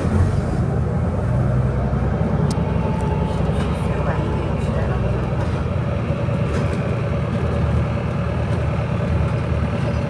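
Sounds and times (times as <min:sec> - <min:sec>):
city bus engine rumble: 0:00.0 - 0:10.0.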